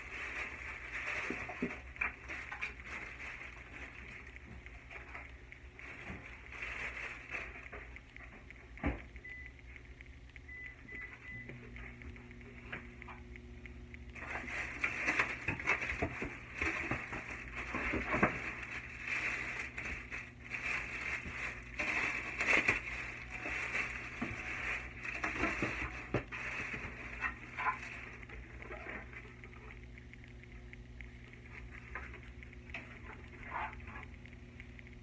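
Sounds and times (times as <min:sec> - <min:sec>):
plastic bag crinkling: 0:00.0 - 0:08.2, 0:14.0 - 0:35.0.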